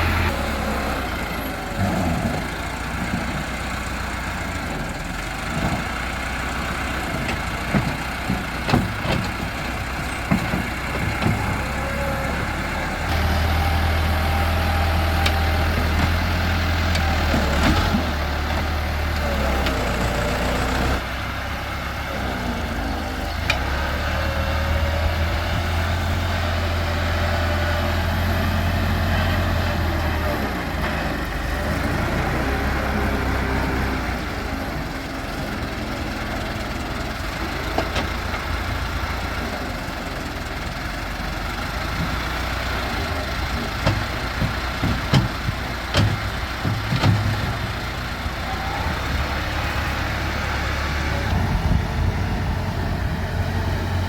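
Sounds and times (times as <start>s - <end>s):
diesel engine working: 0.0s - 54.0s.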